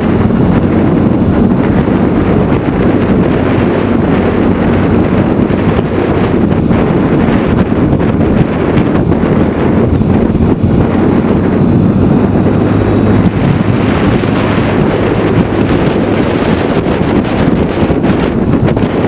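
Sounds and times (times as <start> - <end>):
scooter engine hum: 0.0 - 19.0
wind buffeting microphone: 0.0 - 19.0.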